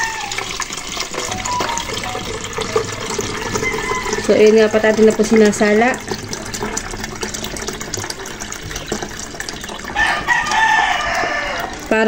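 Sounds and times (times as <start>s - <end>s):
water trickling into a pitcher: 0.0s - 12.0s.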